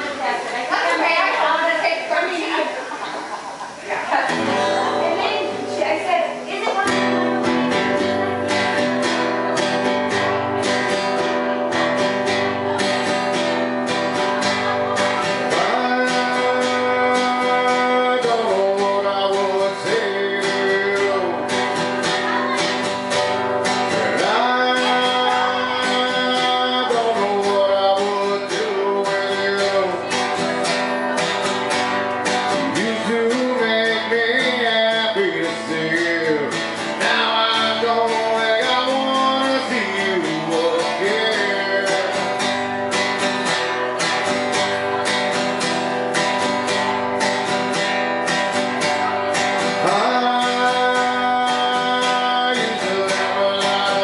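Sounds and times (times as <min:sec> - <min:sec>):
acoustic guitar strumming: 0:03.6 - 0:54.0
man singing: 0:07.0 - 0:54.0.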